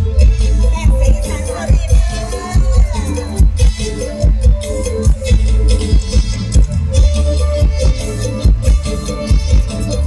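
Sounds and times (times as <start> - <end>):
heavy bass drum beat: 0.0 - 10.0
live band music: 0.0 - 10.0.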